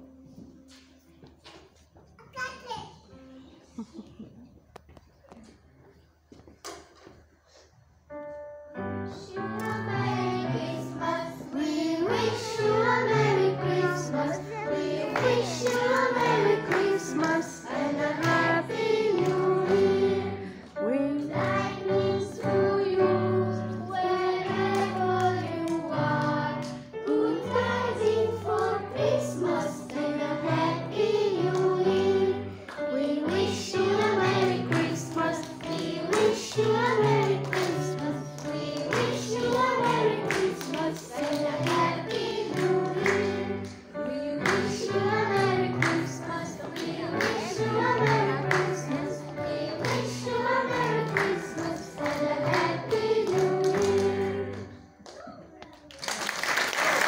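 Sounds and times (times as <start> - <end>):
children's choir singing: 8.8 - 54.9.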